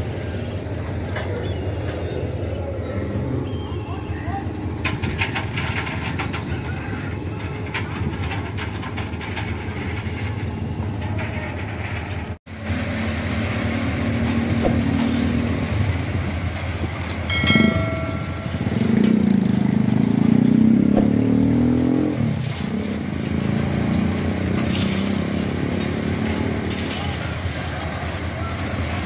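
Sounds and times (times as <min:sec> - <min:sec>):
train wagons rolling on track: 0:00.0 - 0:29.0.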